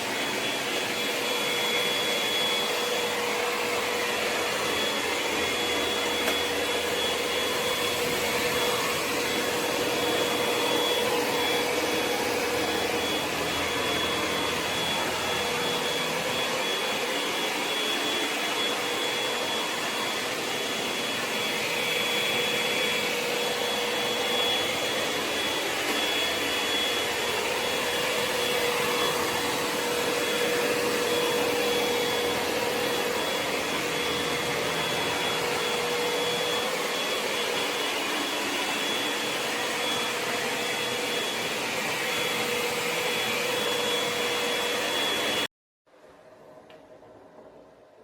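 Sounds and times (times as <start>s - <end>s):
robot vacuum suction whine: 0.0s - 45.5s.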